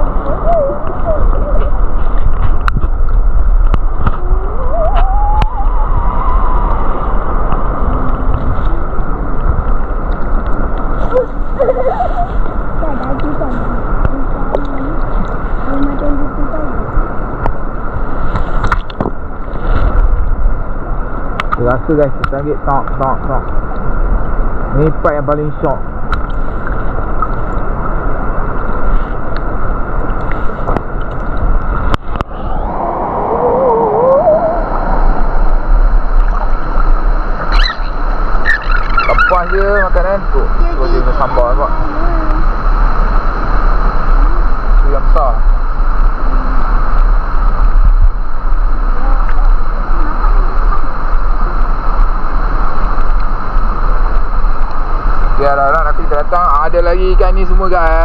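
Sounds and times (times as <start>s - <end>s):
muffled underwater water rumble: 0.0s - 58.0s.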